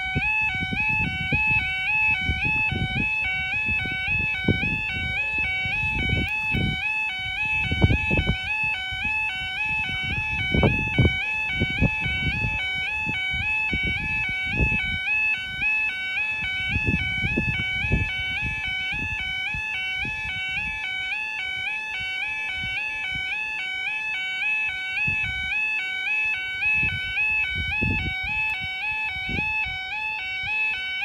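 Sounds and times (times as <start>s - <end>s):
two-tone warning alarm: 0.0s - 31.0s.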